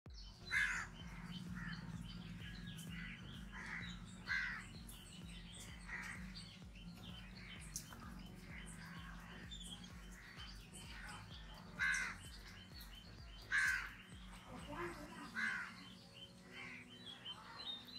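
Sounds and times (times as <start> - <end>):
small birds chirping: 0.1 - 17.9
crows cawing: 0.4 - 17.8.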